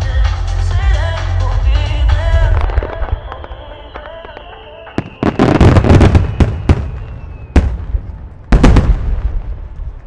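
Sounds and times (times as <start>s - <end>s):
firework crackling: 1.9s - 10.0s.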